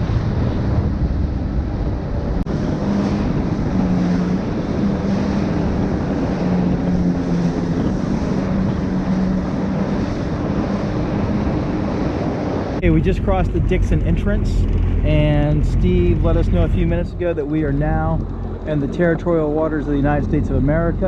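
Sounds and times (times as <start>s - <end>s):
jet ski engine drone: 0.0s - 21.0s
water rushing past hull: 0.0s - 21.0s
wind buffeting microphone: 0.0s - 21.0s.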